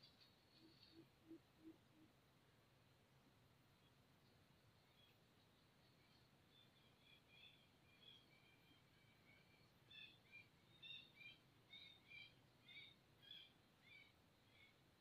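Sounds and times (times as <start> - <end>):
small bird chirping: 0.0 - 2.1, 3.8 - 15.0
low background hiss: 0.0 - 15.0.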